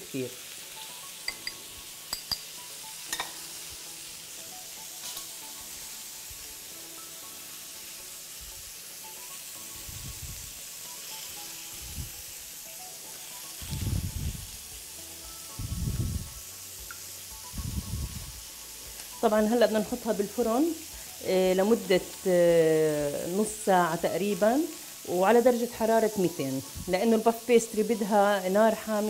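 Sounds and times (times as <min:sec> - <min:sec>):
zucchini sizzling in oil: 0:00.0 - 0:29.0.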